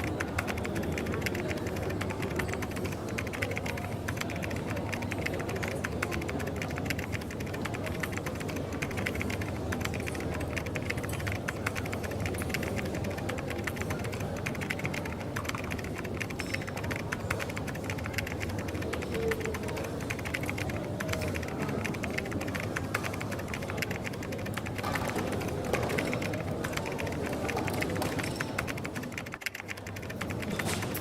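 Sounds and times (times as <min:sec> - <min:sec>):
coffee shop hum: 0:00.0 - 0:31.0
typing on a keyboard: 0:00.0 - 0:31.0.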